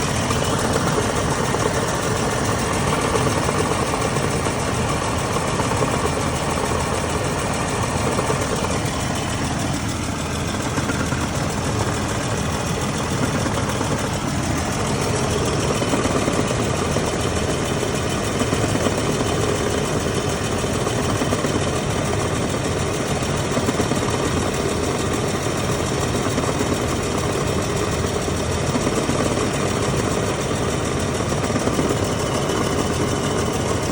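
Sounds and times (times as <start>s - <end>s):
vehicle engine idling: 0.0s - 33.9s.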